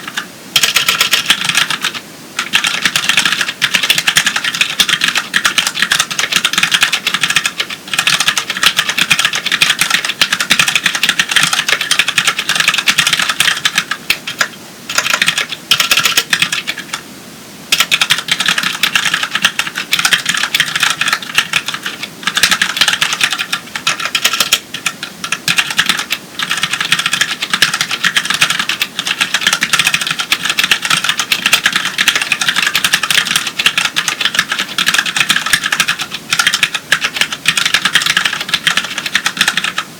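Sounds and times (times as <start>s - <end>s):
mechanical keyboard typing: 0.0s - 17.0s, 17.7s - 39.9s.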